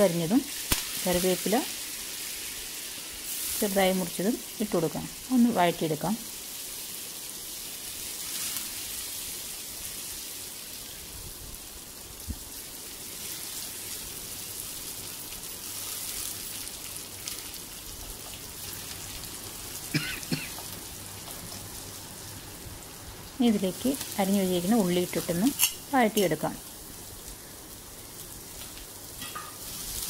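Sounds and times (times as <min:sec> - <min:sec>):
chillies sizzling in hot oil: 0:00.0 - 0:30.0.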